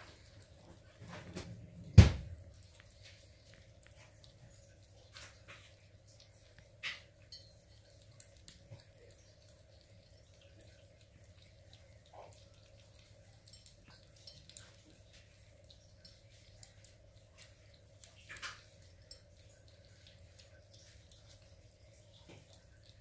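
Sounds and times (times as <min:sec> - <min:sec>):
kittens chewing meat: 0:00.0 - 0:23.0
low steady hum: 0:00.0 - 0:23.0.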